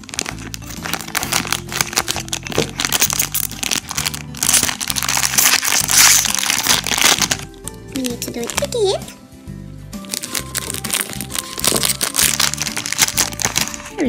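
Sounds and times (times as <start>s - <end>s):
foil bag crinkling: 0.0s - 8.8s, 10.0s - 14.0s
background music with low notes: 0.0s - 14.0s.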